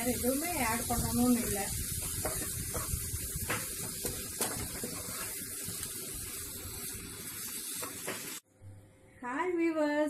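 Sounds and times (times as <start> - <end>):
chicken sizzling in hot oil: 0.0 - 8.4.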